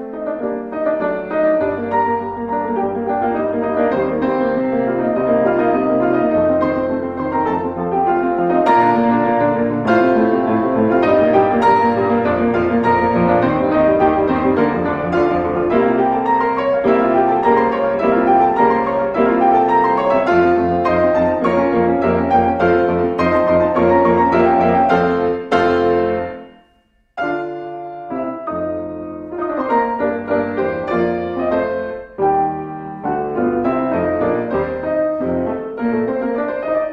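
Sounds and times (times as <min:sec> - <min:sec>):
solo piano music: 0:00.0 - 0:36.9.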